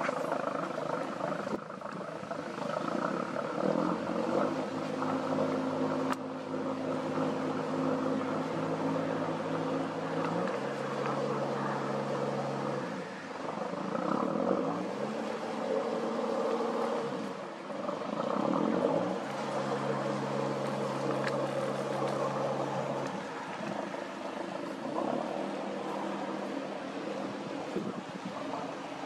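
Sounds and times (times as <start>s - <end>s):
boat engine passing: 0.0s - 29.0s.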